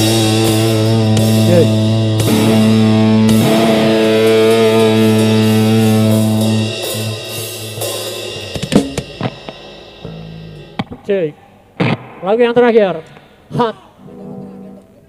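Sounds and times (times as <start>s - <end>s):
bass guitar: 0.0s - 13.2s
distorted electric guitar chord: 0.0s - 13.2s, 14.0s - 15.0s.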